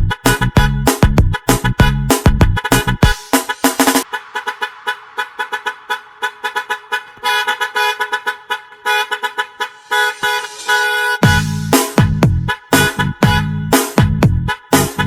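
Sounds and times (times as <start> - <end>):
chopped air horn blasts: 0.0 - 15.0
long held horn blasts: 1.5 - 15.0.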